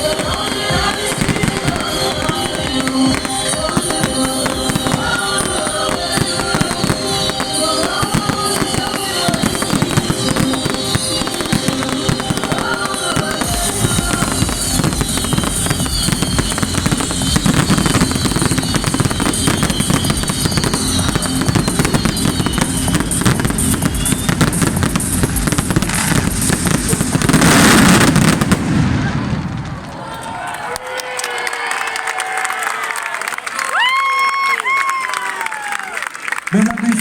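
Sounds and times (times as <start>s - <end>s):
whistling firework shells: 0.0s - 29.7s
fireworks bangs and crackle: 0.0s - 30.3s.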